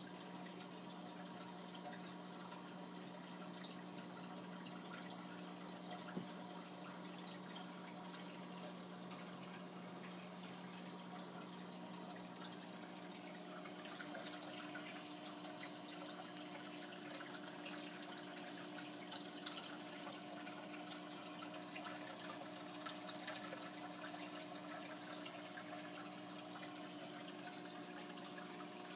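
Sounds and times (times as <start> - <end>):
aquarium water trickling and splashing: 0.0 - 28.9.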